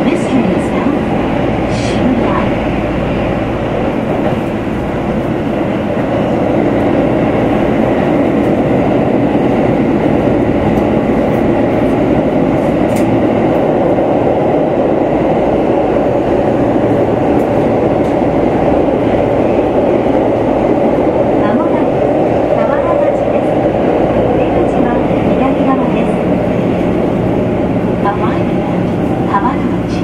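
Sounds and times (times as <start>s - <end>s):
train rumbling in tunnel: 0.0s - 30.0s.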